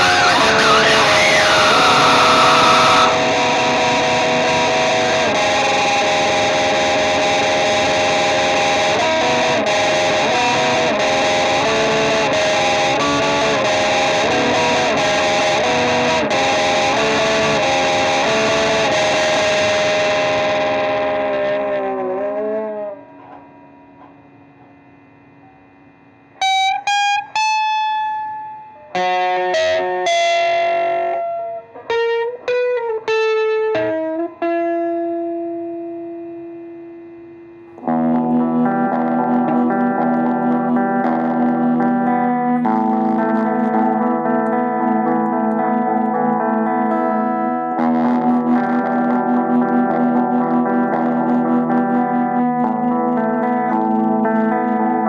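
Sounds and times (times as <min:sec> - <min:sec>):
distorted electric guitar chords: 0:00.0 - 0:55.0
sharp single guitar notes: 0:00.0 - 0:55.0.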